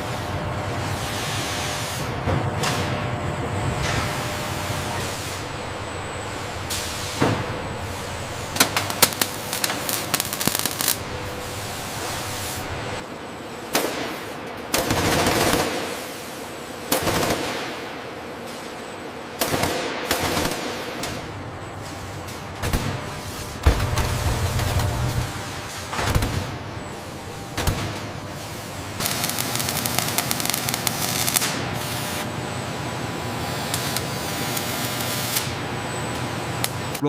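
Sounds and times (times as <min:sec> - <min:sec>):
factory machinery hum: 0:00.0 - 0:37.0.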